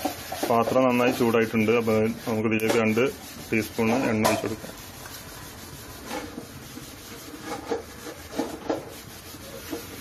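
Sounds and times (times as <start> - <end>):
rubbing and scraping sounds: 0.0 - 10.0.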